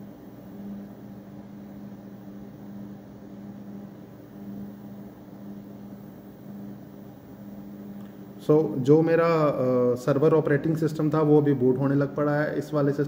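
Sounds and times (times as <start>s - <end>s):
server cooling fans running: 0.0s - 13.0s.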